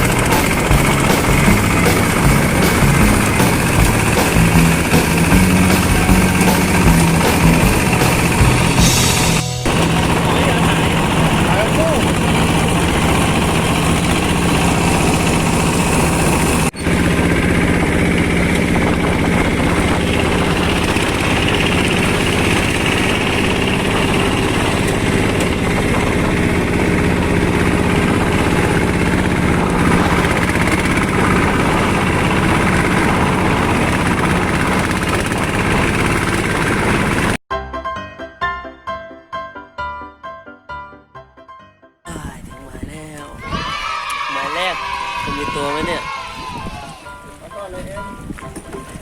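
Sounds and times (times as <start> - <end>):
boat engine droning: 0.0 - 37.4, 42.1 - 49.0.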